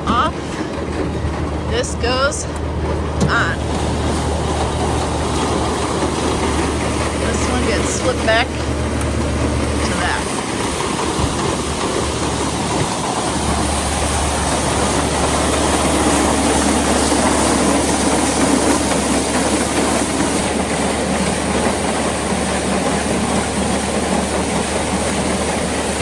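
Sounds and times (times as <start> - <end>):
auger rattling and rumbling: 0.0 - 26.0
tractor engine running: 0.0 - 26.0.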